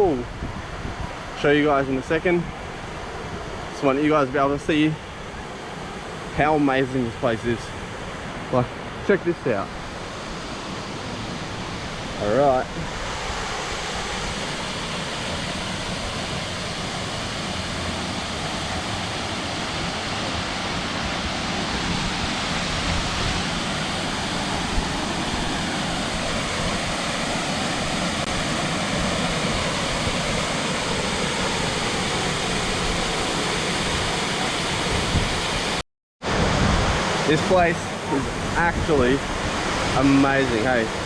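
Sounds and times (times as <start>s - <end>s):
waterfall rushing: 5.1s - 41.0s.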